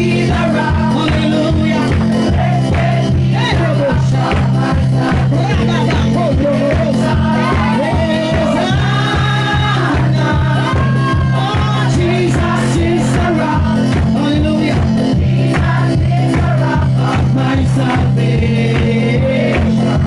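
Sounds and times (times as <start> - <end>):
drum beat and bass: 0.0 - 20.0
people singing worship music: 0.0 - 20.0.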